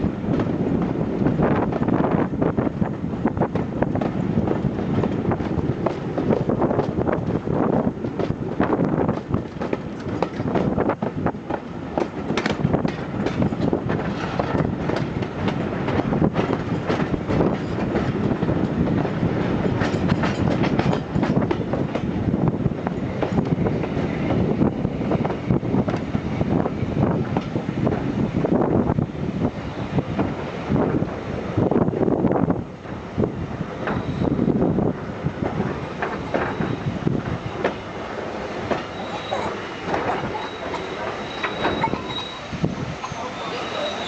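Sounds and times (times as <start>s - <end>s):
train rumbling: 0.0s - 44.0s
wheels clicking over rail joints: 2.9s - 28.2s, 33.7s - 44.0s.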